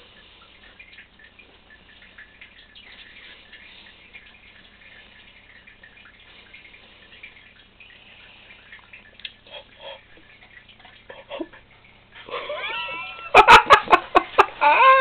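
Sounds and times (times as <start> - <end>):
low steady hum: 0.0 - 15.0
water trickling and dripping: 0.0 - 15.0.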